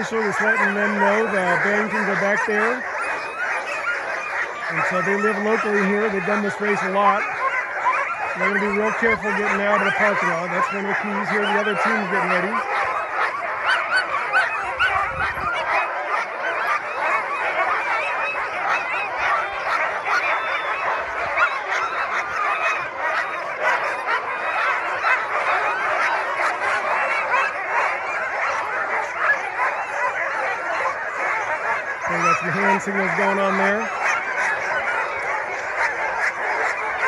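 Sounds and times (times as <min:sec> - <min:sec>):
sled dogs barking and yelping: 0:00.0 - 0:37.0.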